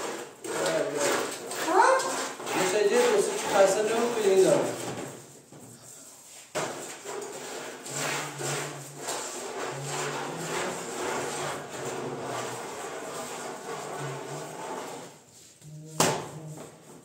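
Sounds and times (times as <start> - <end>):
rhythmic rubbing strokes: 0.0 - 17.0.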